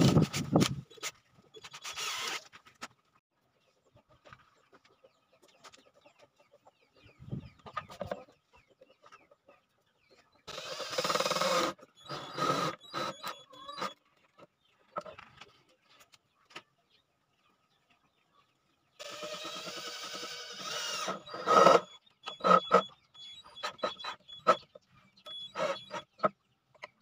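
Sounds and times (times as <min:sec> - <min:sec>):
chickens clucking and calling: 0:03.4 - 0:19.5, 0:20.6 - 0:27.0.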